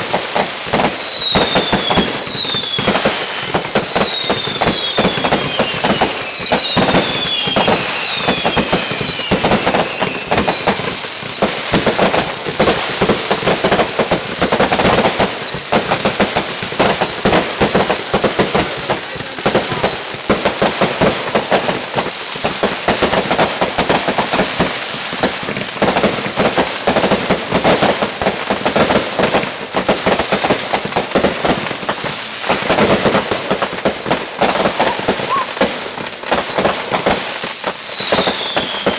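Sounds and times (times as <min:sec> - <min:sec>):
falling firework whistles: 0:00.0 - 0:38.9
fireworks crackling and popping: 0:00.0 - 0:38.9.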